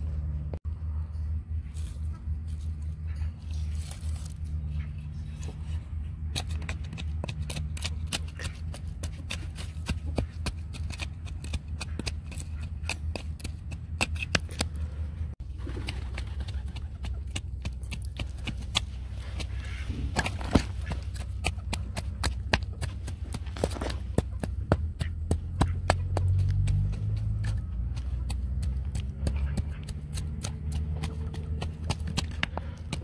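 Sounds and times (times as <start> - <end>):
wooden board tamping soil: 5.3 - 33.0.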